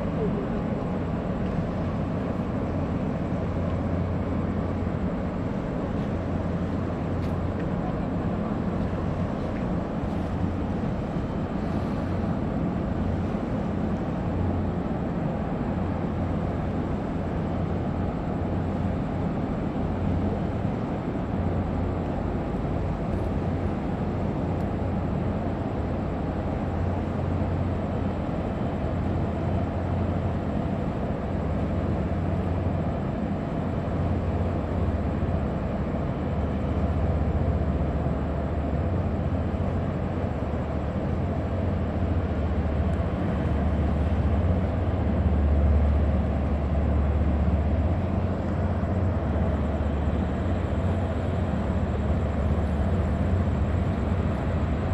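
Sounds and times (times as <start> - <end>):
ship engines droning: 0.0 - 54.9.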